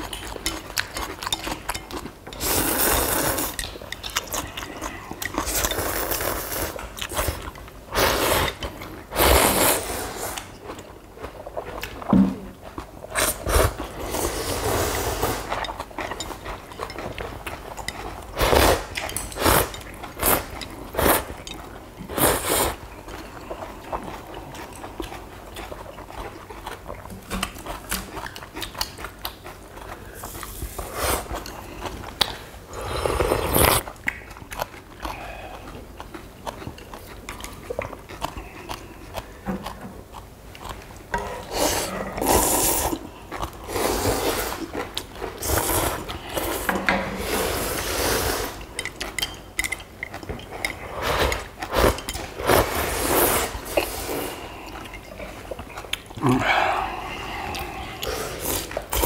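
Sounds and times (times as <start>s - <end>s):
people chewing noodles: 0.0s - 59.0s.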